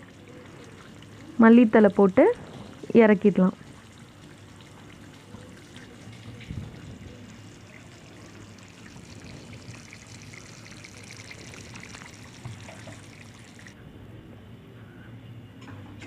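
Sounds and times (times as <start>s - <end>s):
gravy bubbling and crackling: 0.0s - 13.8s.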